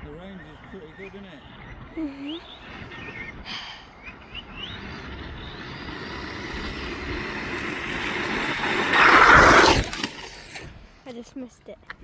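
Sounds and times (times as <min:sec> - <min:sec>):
electric rc car motor and tyres: 0:00.0 - 0:11.1.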